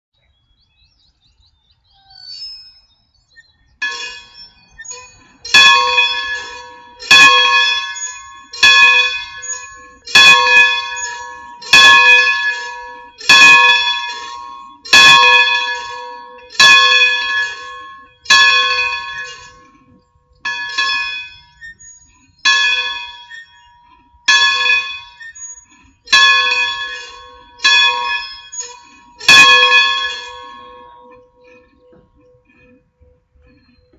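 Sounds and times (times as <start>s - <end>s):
church bell ringing: 3.8s - 21.8s, 22.4s - 32.2s.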